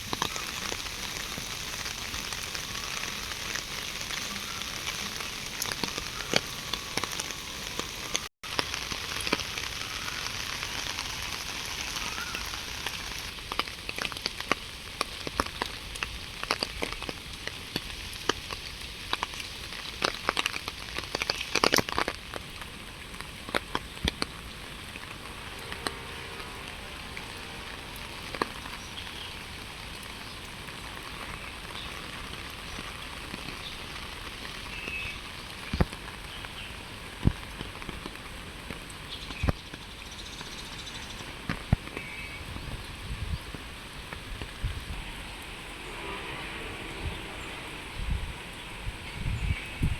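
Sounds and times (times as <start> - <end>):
rain pattering on hard surface: 0.0 - 49.9.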